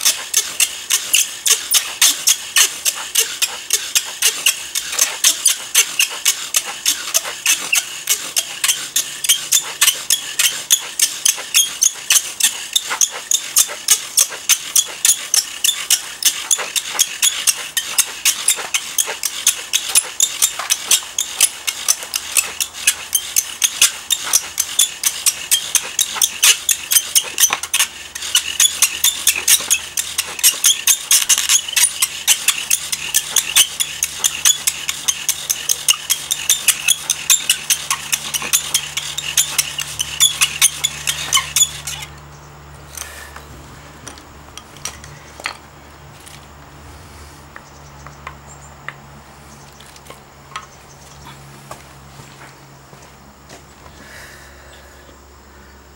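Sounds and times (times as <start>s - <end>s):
bow drill spindle squeaking and grinding: 0.0s - 46.5s.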